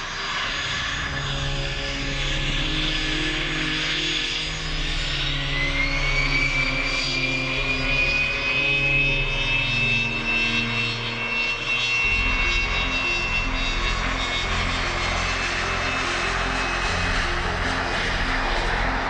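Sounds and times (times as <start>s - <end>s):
jet engines whining and roaring: 0.0s - 19.0s.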